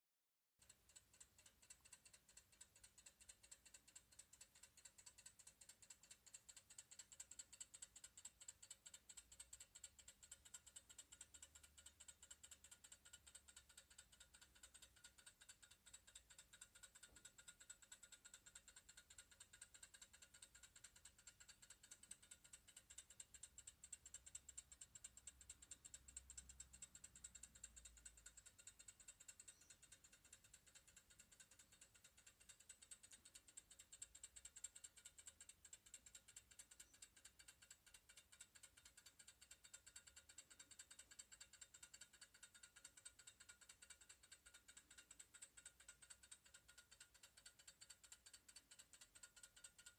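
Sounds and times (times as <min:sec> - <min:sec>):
clock ticking faintly: 0:00.6 - 0:49.9.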